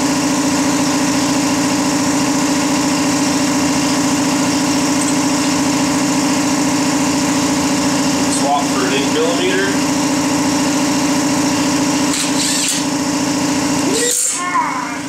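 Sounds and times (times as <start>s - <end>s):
pulsing machine hum: 0.0s - 15.0s.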